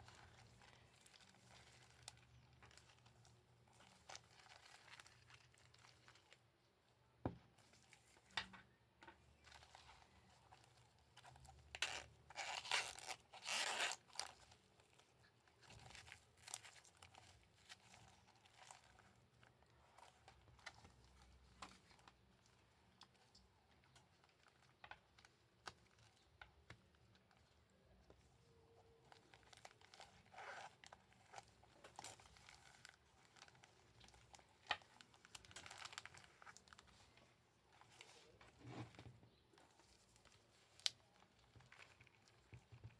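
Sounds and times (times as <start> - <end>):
packaging crinkling and rustling: 0.0 - 6.6, 7.3 - 42.9.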